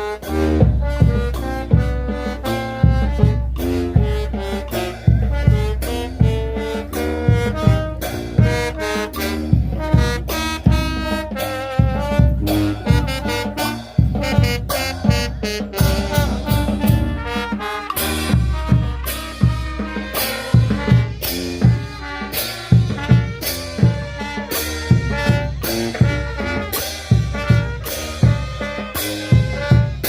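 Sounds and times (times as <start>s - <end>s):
saxophone and trumpets melody: 0.0s - 30.0s
steady drum beat: 0.0s - 30.0s.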